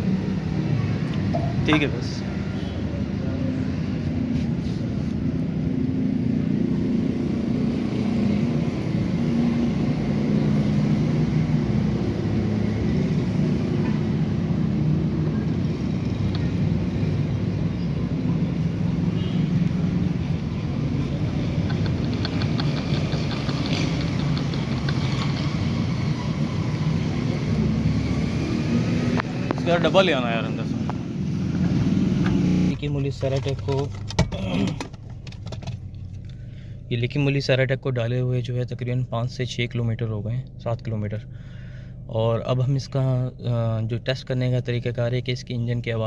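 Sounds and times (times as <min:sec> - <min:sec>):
car engine running steadily: 0:00.0 - 0:46.0.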